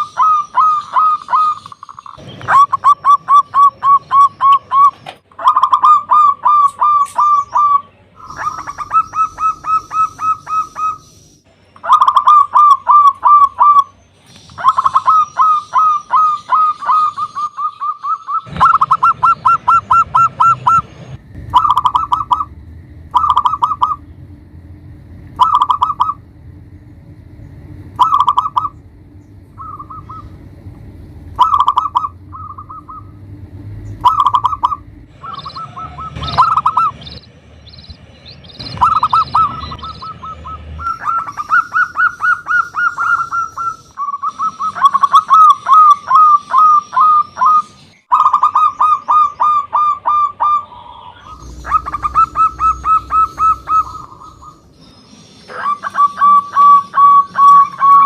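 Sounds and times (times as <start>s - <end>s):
dove cooing: 0.0s - 11.1s, 11.8s - 13.9s, 14.6s - 24.1s, 25.3s - 26.2s, 28.0s - 28.8s, 29.6s - 30.5s, 31.4s - 33.3s, 33.9s - 37.1s, 38.6s - 54.8s, 55.4s - 58.0s.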